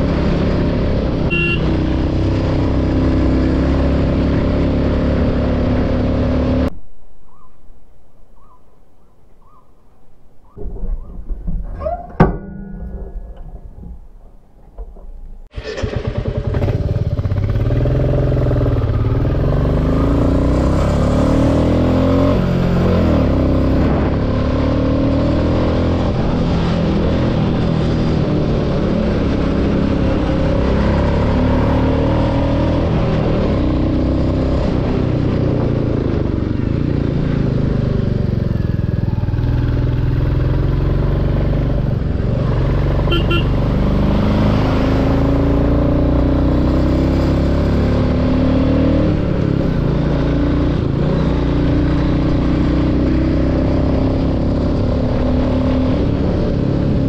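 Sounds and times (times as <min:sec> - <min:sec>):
motorcycle engine revving: 0:00.0 - 0:06.7, 0:15.4 - 0:57.0.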